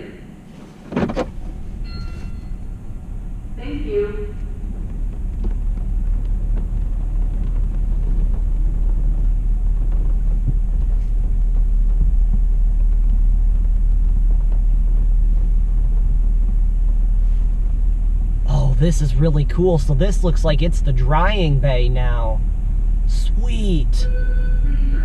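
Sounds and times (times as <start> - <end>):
car rumble from inside cabin: 0.1 - 25.0.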